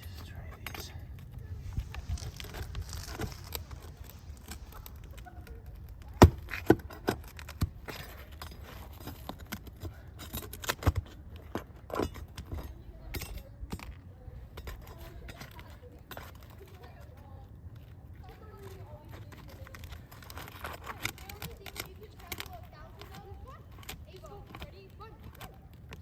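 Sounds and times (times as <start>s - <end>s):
clinks and scraping: 0.0s - 26.0s
tool prying roof shingles: 2.0s - 16.7s, 18.6s - 26.0s.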